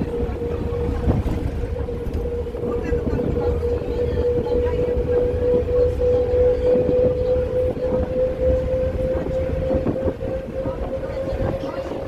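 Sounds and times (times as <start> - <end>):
bus engine and road rumble: 0.0 - 12.0
constant high whine: 0.0 - 12.0.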